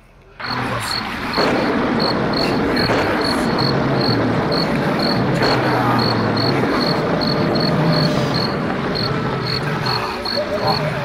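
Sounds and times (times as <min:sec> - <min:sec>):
low drone: 0:00.0 - 0:11.0
crickets chirping: 0:00.4 - 0:11.0
rushing hiss: 0:00.5 - 0:11.0.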